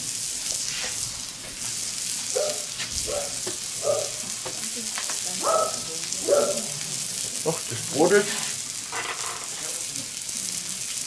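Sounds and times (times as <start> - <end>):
oil and bread sizzling: 0.0 - 11.0.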